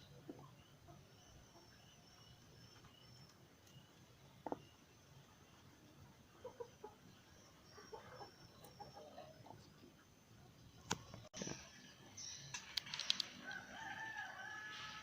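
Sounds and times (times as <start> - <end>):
faint chicken clucking: 0.0 - 12.2.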